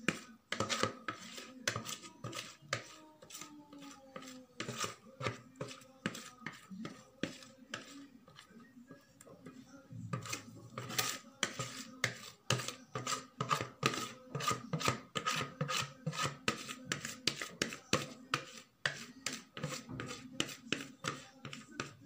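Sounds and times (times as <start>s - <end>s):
whisk scraping plastic bowl: 0.0s - 22.0s.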